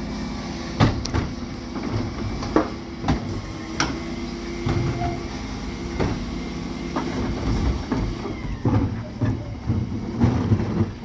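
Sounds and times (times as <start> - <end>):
refuse truck machine hum: 0.0 - 11.0.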